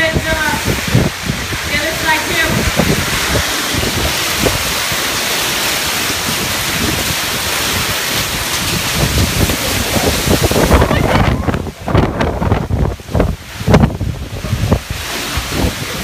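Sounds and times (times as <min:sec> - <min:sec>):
hail and wind rushing: 0:00.0 - 0:16.0.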